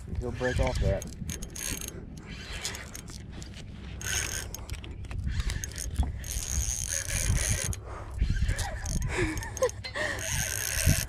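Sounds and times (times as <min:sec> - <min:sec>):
fishing reel drag buzzing: 0:00.3 - 0:11.0.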